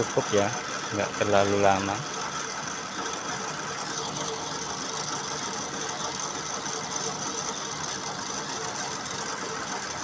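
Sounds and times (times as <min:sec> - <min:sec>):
quilting machine whirring and clattering: 0:00.0 - 0:10.0.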